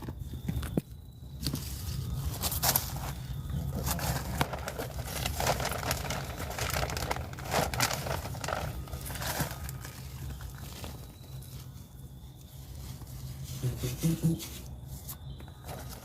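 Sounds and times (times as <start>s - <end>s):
hands rustling compost and mulch: 1.4s - 16.0s.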